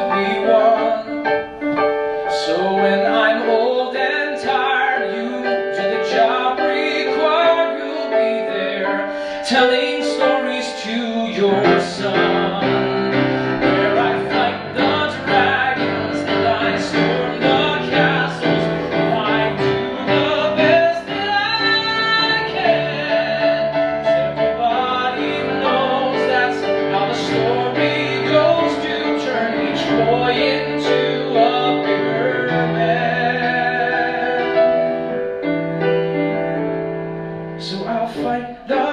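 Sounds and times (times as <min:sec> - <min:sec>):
man singing into a microphone: 0:00.0 - 0:35.2, 0:37.6 - 0:38.9
piano accompaniment: 0:00.0 - 0:38.9.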